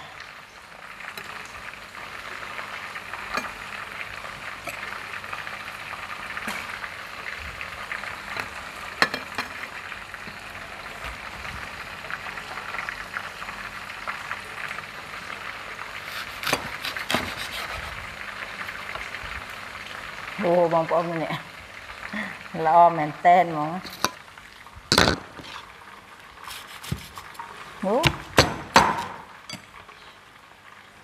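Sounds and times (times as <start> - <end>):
hot oil sizzling: 0.0 - 31.0.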